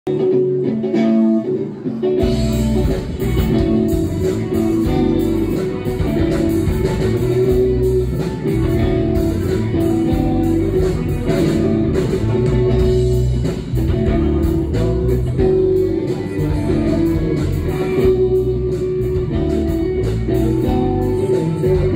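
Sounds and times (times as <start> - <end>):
bass guitar: 0.1 - 21.9
drums: 0.1 - 21.9
electric guitars: 0.1 - 21.9.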